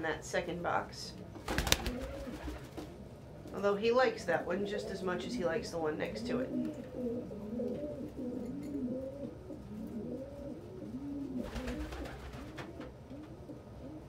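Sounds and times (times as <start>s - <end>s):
pigeons cooing: 1.4s - 3.2s, 4.3s - 14.0s.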